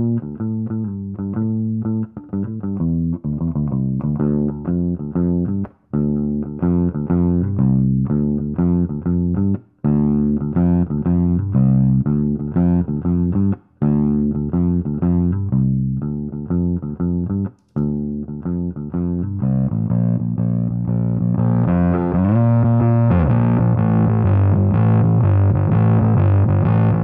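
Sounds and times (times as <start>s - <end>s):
overdriven electric bass riff: 0.0s - 27.0s.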